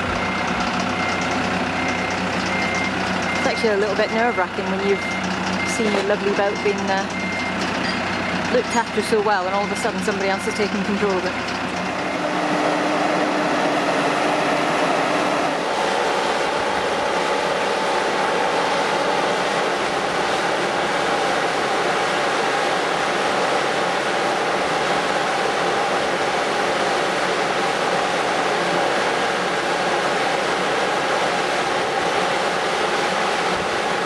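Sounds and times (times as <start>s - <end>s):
machine engine running: 0.0s - 34.0s.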